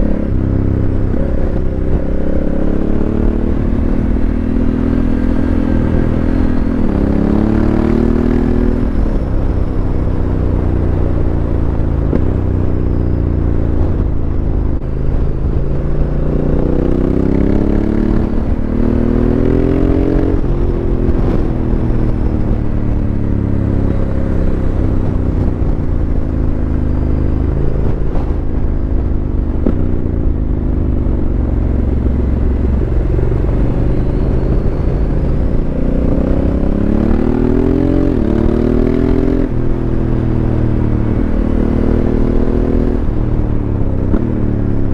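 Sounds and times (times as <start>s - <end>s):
motorcycle engine revving: 0.0s - 44.9s
wind noise on microphone: 0.0s - 44.9s.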